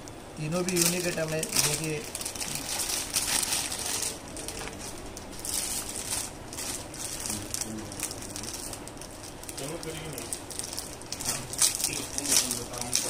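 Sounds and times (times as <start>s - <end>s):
plastic packaging crinkling: 0.4s - 13.0s.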